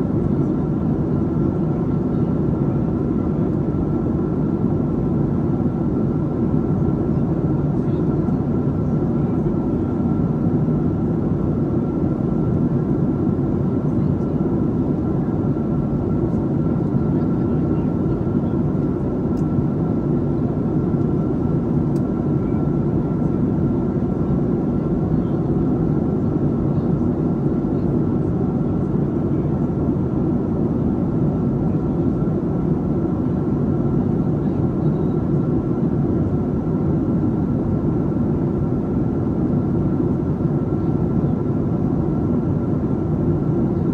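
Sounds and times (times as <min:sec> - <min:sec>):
aircraft cabin low rumble: 0:00.0 - 0:43.9.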